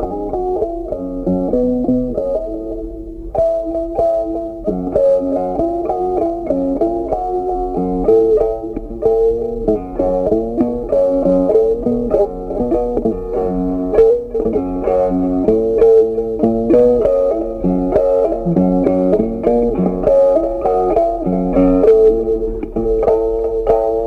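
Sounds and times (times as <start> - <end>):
plucked string music: 0.0 - 24.0.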